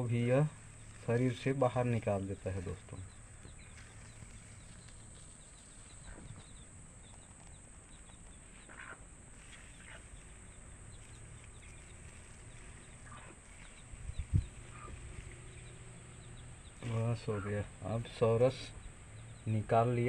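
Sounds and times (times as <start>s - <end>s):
high insect hiss: 0.0s - 20.0s
small birds chirping: 0.0s - 20.0s.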